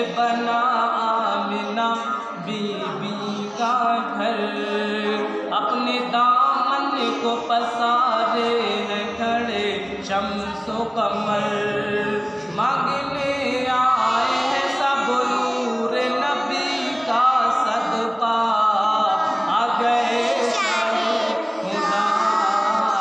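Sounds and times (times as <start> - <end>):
girls and man singing in chorus: 0.0 - 23.0.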